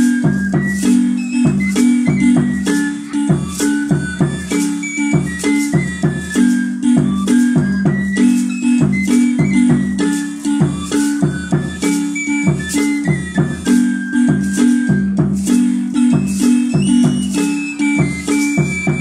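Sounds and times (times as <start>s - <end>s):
maracas rattling: 0.0s - 19.0s
marimba playing: 0.0s - 19.0s.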